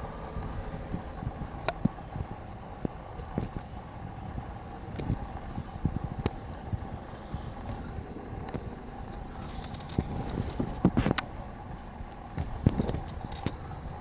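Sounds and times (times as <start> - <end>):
car cabin hum: 0.0 - 14.0.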